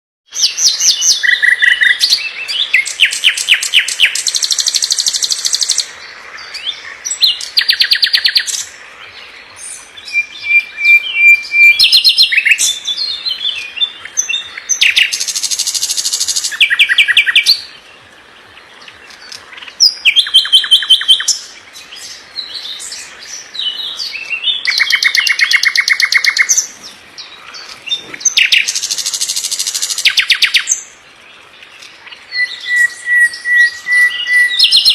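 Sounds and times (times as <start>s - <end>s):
nightingale singing: 0.3s - 34.9s.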